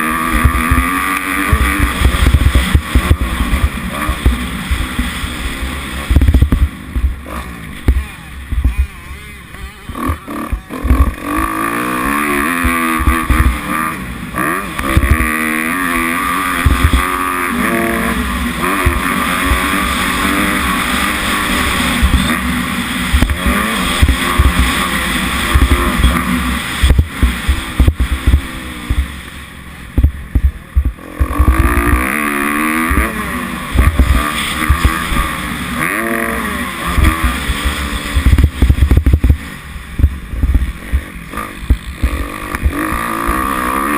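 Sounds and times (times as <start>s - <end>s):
low thumps: 0.0s - 9.1s, 9.9s - 13.9s, 14.7s - 18.1s, 18.7s - 35.4s, 36.8s - 43.8s
motocross bike engine revving: 0.0s - 43.9s.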